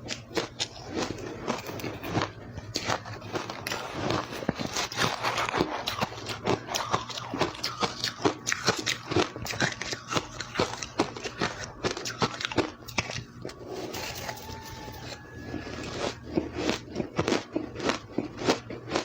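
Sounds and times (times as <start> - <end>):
chewing crushed ice: 0.0 - 19.0.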